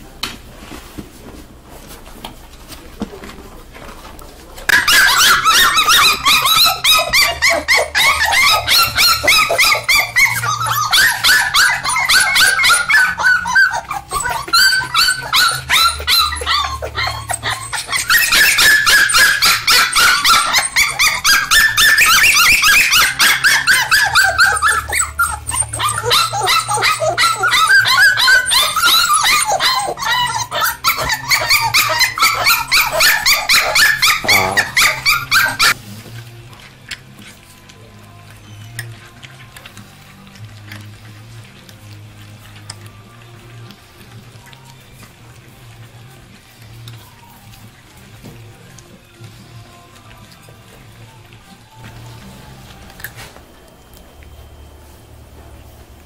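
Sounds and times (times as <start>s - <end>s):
puppies yipping and barking: 4.7s - 56.0s.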